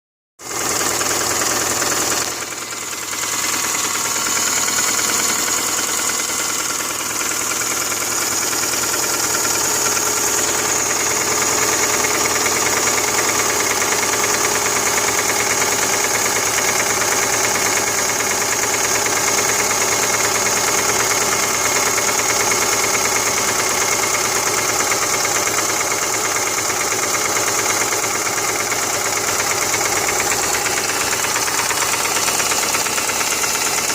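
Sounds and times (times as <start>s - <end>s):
car engine knocking: 0.4s - 33.9s.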